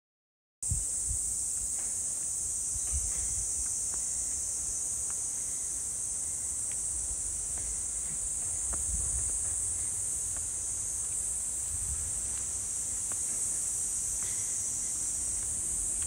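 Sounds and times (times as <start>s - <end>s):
insects chorus: 0.6s - 16.0s.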